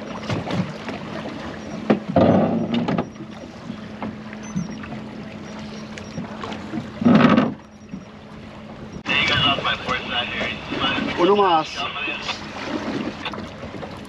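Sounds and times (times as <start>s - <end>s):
boat hum: 0.0s - 14.0s.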